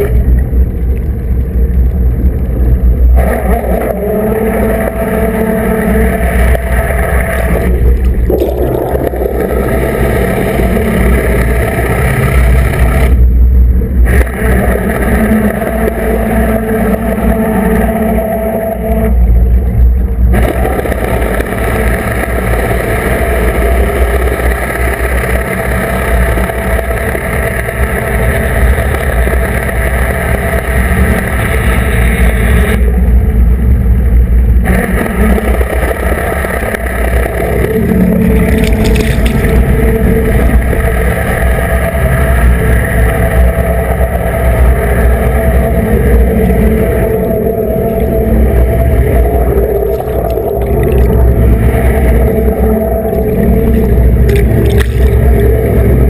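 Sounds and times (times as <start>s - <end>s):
churning water: 0.0s - 56.0s
underwater engine and propeller drone: 0.0s - 56.0s.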